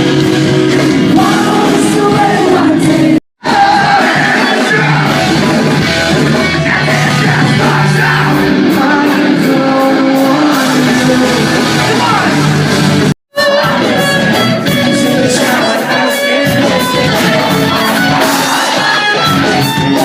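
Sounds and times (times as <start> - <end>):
live rock band playing: 0.0 - 20.0
person singing: 1.0 - 5.2, 6.4 - 12.4, 13.3 - 20.0.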